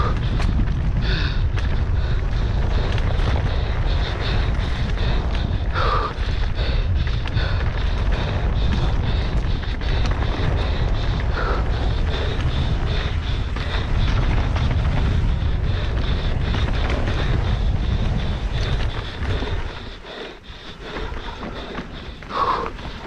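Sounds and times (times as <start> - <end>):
mountain bike rattling over rough ground: 0.0 - 23.0
wind buffeting microphone: 0.0 - 23.0.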